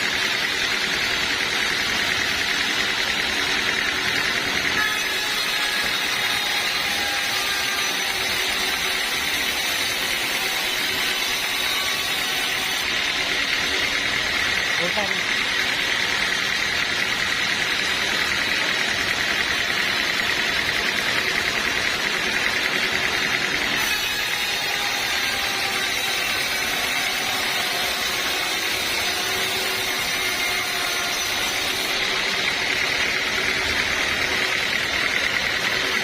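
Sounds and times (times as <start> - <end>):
sawmill machinery running: 0.0 - 36.0.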